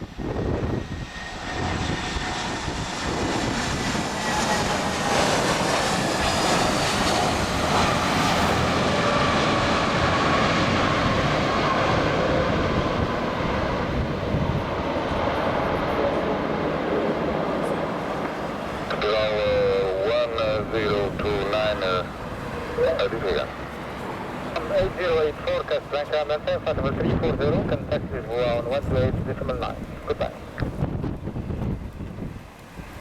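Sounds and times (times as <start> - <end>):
jet engines rushing: 0.0 - 33.0
engine whine gliding down: 0.1 - 32.2.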